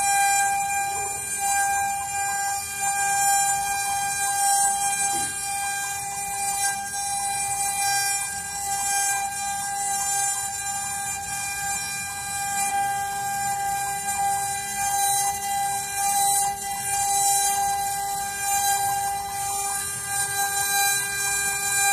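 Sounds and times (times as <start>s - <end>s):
router bit cutting wood: 0.0s - 21.9s
router spindle whining: 0.0s - 21.9s.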